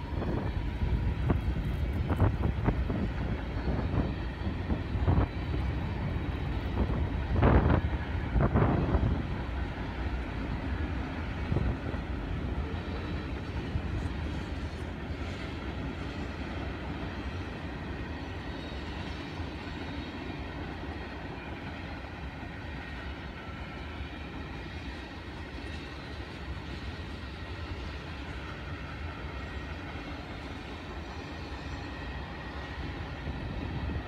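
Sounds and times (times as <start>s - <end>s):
freight train rolling by: 0.0s - 34.0s.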